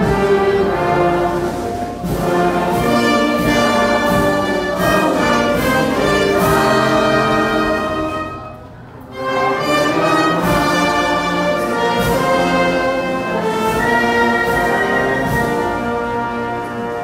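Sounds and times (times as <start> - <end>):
brass band playing anthem: 0.0 - 17.0.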